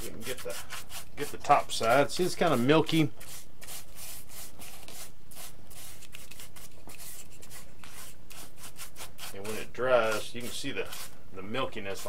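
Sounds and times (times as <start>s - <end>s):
paintbrush scratchy strokes on foam: 0.0s - 12.0s.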